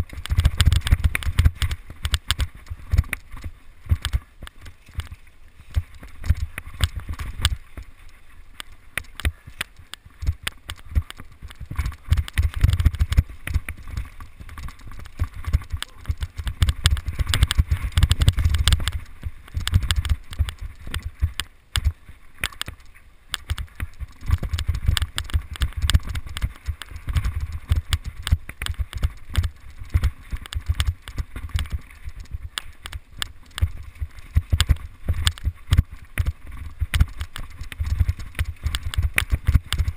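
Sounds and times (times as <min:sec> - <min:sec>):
bike clattering over rough trail: 0:00.0 - 0:39.9
wind rumble on microphone: 0:00.0 - 0:39.9.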